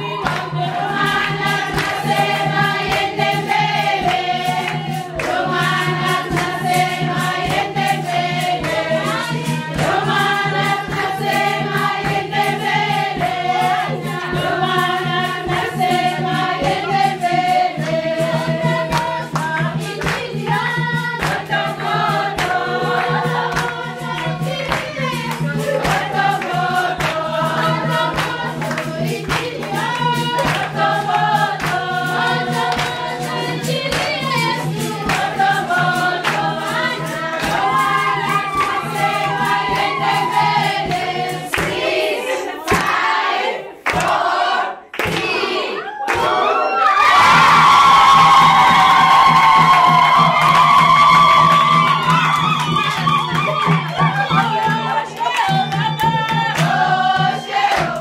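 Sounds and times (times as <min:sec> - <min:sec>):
rhythmic hand clapping: 0:00.0 - 0:58.0
women singing together: 0:00.0 - 0:58.0.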